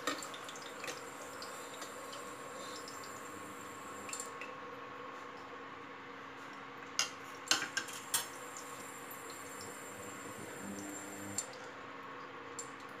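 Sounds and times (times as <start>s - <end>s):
cooktop electrical hum: 0.0s - 13.0s.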